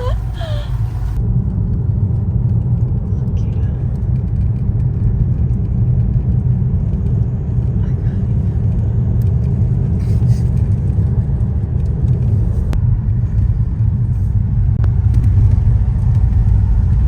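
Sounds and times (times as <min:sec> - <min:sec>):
car driving road rumble: 0:00.0 - 0:17.0.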